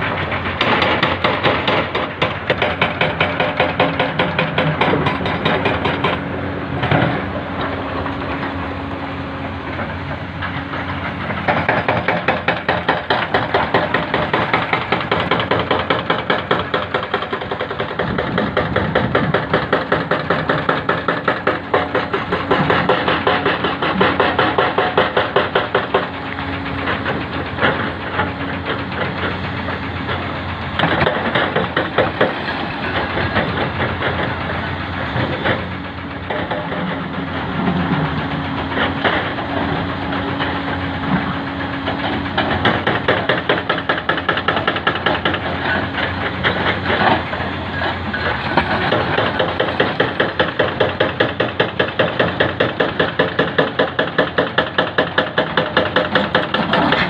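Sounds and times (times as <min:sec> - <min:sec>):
excavator diesel engine pulsing: 0:00.0 - 0:57.0
steady engine hum: 0:00.0 - 0:57.0.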